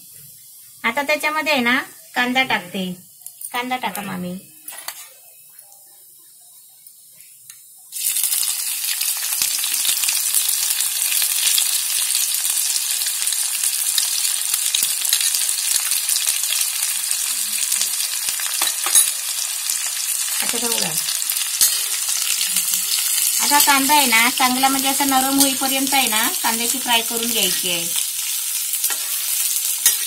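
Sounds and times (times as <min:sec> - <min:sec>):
onions sizzling in hot oil: 0:00.0 - 0:06.0, 0:06.6 - 0:30.0.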